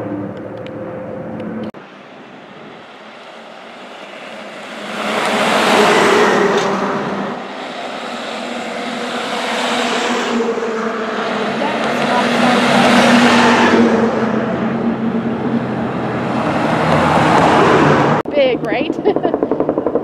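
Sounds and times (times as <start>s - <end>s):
aircraft engine droning: 0.0s - 20.0s
diesel engine rumbling: 0.0s - 20.0s
road noise rushing: 0.0s - 20.0s.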